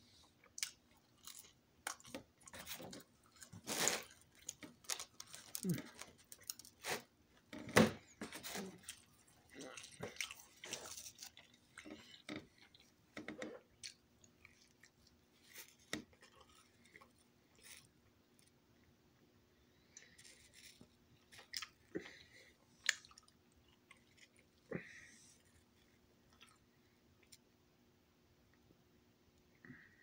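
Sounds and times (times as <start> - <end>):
person chewing food: 0.2 - 7.1, 8.3 - 18.6, 20.0 - 27.4.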